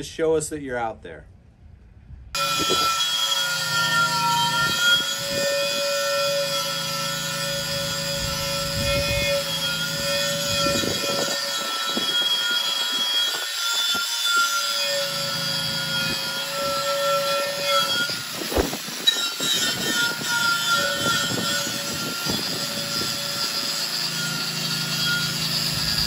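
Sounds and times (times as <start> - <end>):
wire wheel grinder whining: 2.4 - 26.0
wire wheel scraping paint: 2.4 - 26.0.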